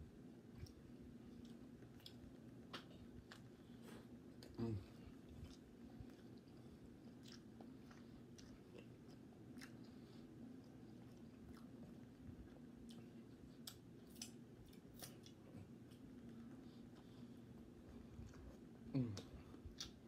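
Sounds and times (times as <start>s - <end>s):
steady low hum: 0.0s - 20.0s
person chewing: 0.5s - 20.0s.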